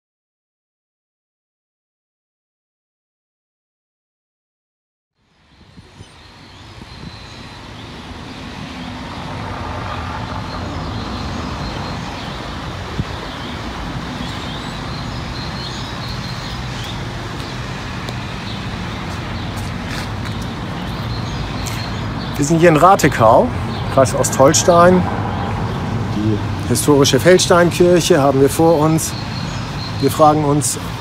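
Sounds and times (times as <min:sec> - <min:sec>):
road traffic rumble: 0:05.2 - 0:31.0.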